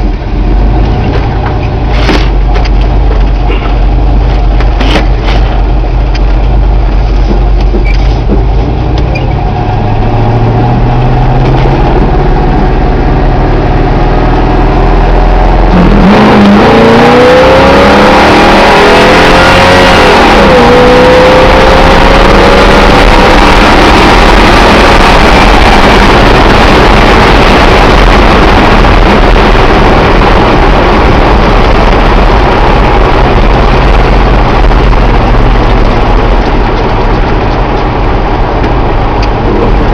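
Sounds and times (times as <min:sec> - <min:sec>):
truck engine idling and revving: 0:00.0 - 0:39.9.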